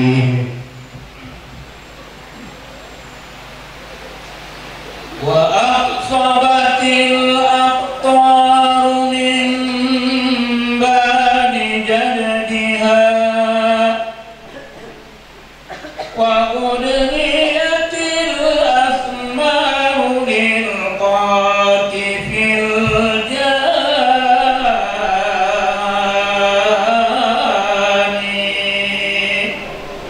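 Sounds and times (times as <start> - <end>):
man chanting: 0.0 - 0.8, 5.2 - 14.8, 16.1 - 30.0
low hum: 0.0 - 30.0.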